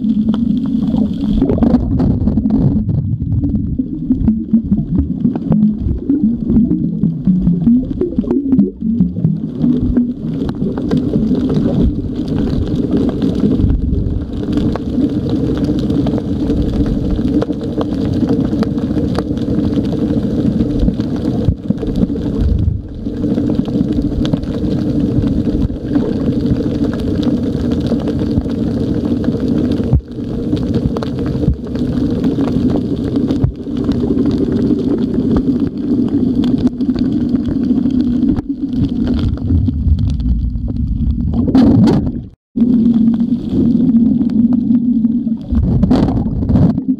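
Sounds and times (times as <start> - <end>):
boat engine droning underwater: 0.0 - 46.9
low rumble: 0.0 - 46.9.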